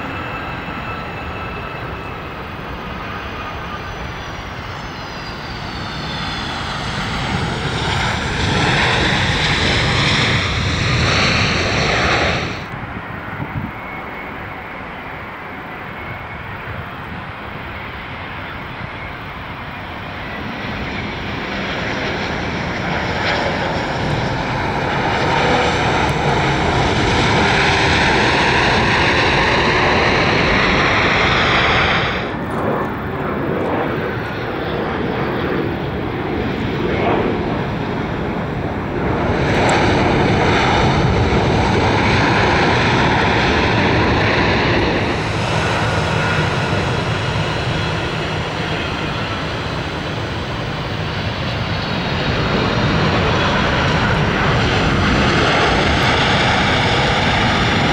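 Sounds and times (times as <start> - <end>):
jet engines roaring: 0.0 - 57.9
jet engines rolling on runway: 0.0 - 57.9.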